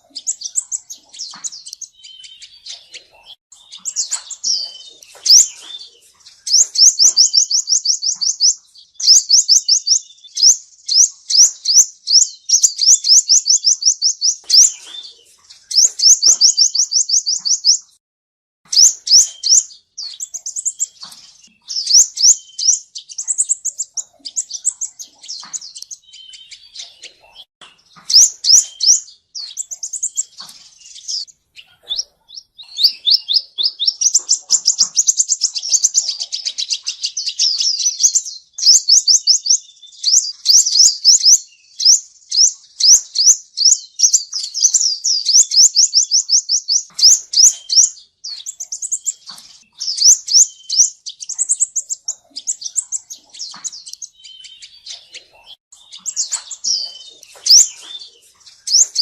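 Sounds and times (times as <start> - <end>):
bird singing rapid chips and trills: 0.0 - 18.0, 18.7 - 59.0.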